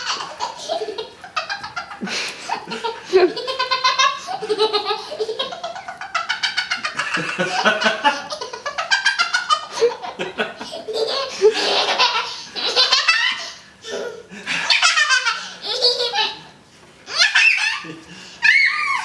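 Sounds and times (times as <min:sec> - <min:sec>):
people laughing hard: 0:00.0 - 0:16.4.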